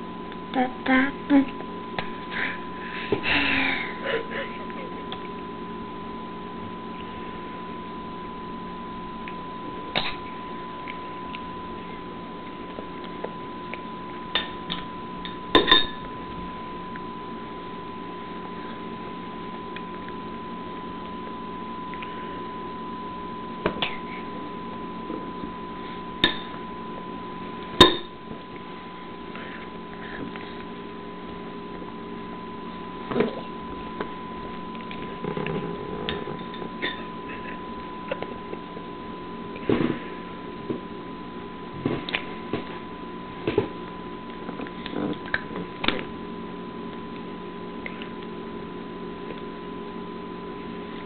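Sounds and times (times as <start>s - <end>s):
faint electrical hum: 0.0s - 51.0s.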